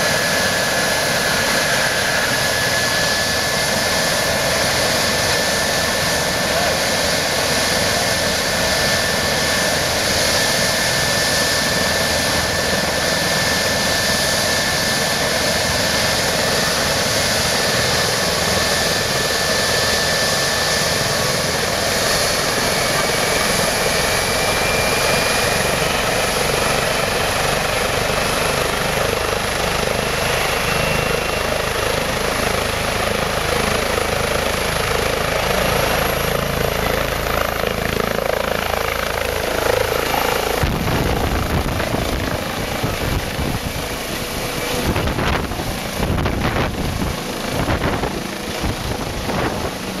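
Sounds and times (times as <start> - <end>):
helicopter rotor and turbine noise: 0.0 - 50.0
high turbine whine: 0.0 - 50.0.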